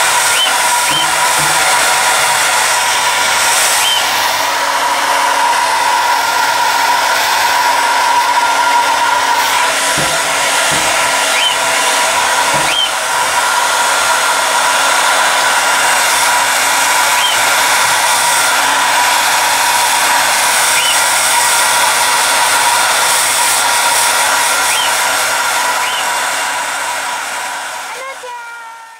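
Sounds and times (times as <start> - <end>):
hair dryer blowing: 0.0 - 28.9.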